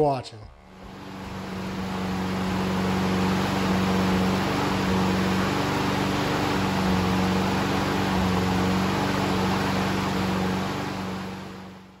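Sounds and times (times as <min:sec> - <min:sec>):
lawn mower engine running: 0:00.6 - 0:12.0.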